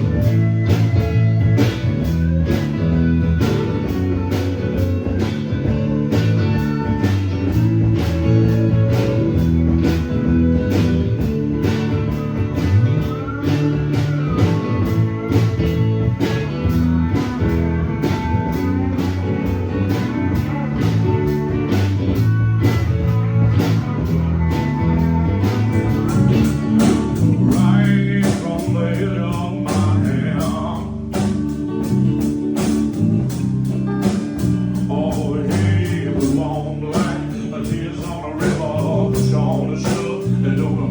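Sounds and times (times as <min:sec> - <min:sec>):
person singing: 0:00.0 - 0:31.9, 0:33.9 - 0:40.9
band playing blues-rock: 0:00.0 - 0:40.9.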